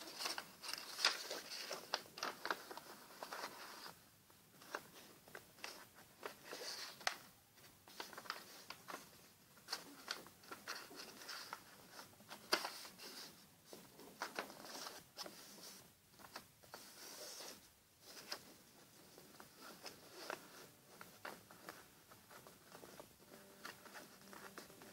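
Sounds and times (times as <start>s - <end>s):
paper being folded and creased: 0.0s - 24.9s.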